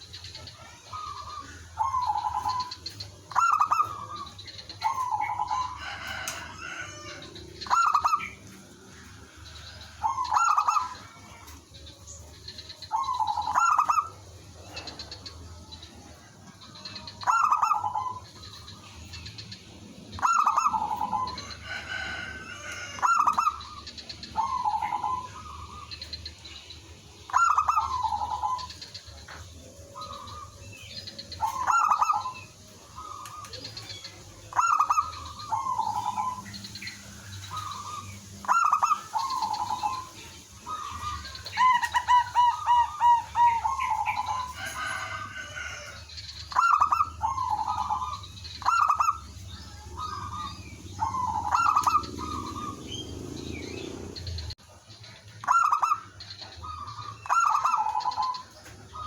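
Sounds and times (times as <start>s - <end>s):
dove cooing: 0.0s - 26.1s, 27.1s - 54.6s, 55.4s - 59.0s.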